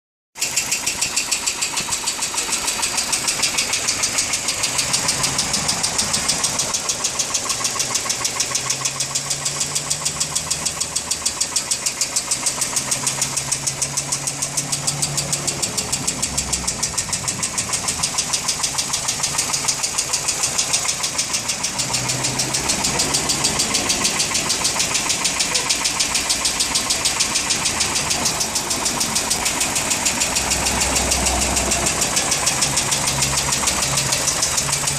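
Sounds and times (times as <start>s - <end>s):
engine running with rapid ticking: 0.4s - 34.9s.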